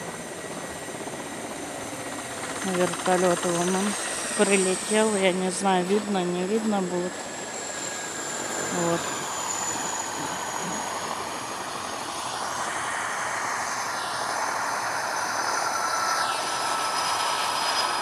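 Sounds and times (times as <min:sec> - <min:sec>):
helicopter turbine engines whining: 0:00.0 - 0:18.0.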